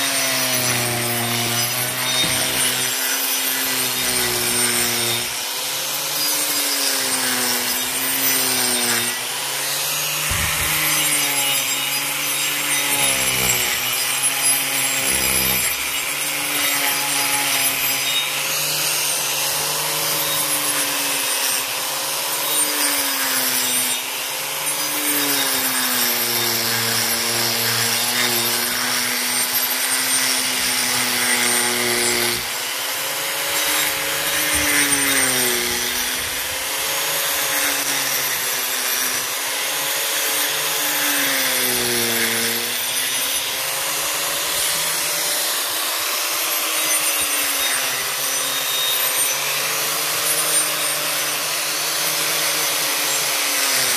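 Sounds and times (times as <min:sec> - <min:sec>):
angle grinder grinding wood: 0:00.0 - 0:53.9.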